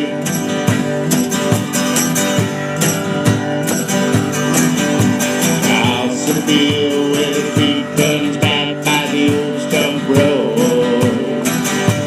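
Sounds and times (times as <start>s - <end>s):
steady beat: 0.0s - 12.0s
strummed guitar: 0.0s - 12.0s.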